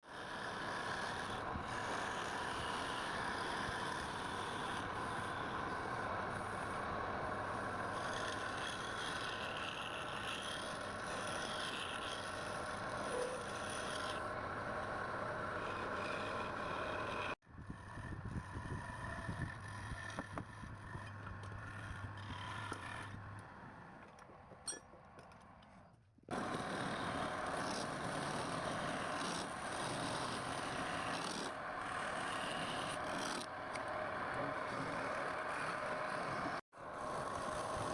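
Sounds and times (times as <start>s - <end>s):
lathe motor hum: 0.1s - 23.5s, 26.3s - 37.9s
tool scraping spinning wood: 0.1s - 24.7s, 25.8s - 37.9s.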